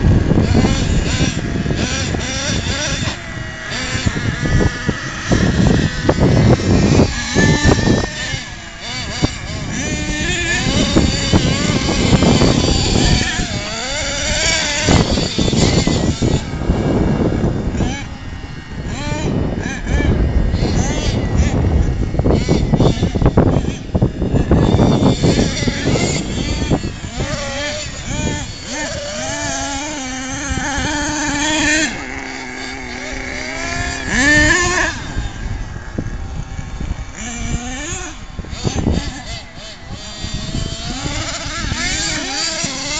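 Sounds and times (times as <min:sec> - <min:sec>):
small nitro engine revving: 0:00.0 - 0:42.9.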